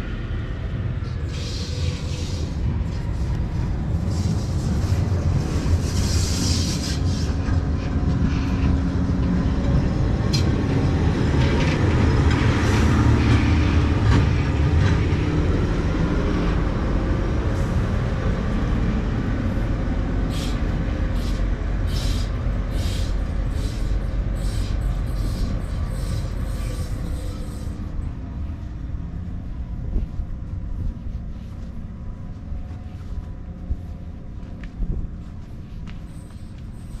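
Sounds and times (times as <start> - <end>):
diesel locomotive engine rumbling: 0.0 - 37.0.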